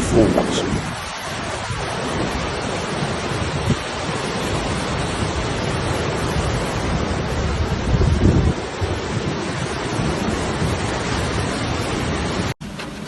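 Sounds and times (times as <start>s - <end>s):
wind gusts on microphone: 0.0s - 12.6s
stream water rushing: 0.0s - 13.0s.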